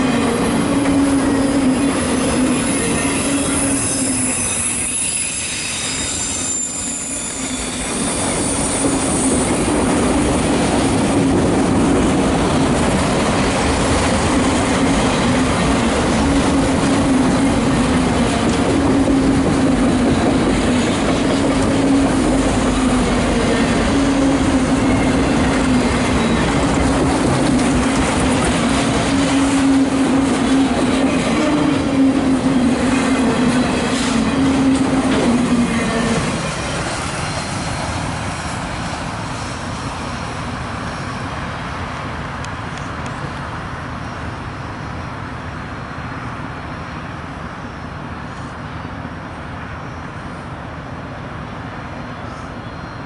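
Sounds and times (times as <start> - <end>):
freight train wheels rumbling on rail: 0.0 - 53.0.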